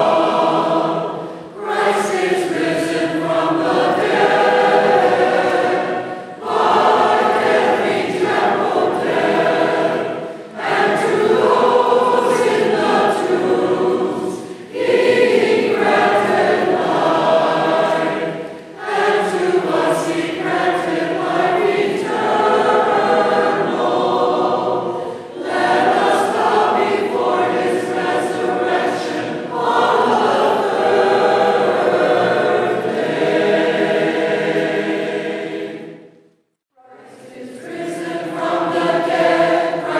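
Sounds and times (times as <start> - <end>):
choir singing unaccompanied: 0.0 - 36.2, 36.8 - 39.9.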